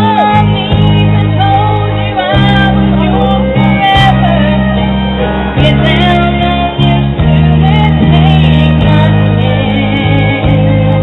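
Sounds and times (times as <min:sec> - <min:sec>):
instrumental backing music: 0:00.0 - 0:11.0
woman singing into a microphone: 0:00.0 - 0:11.0.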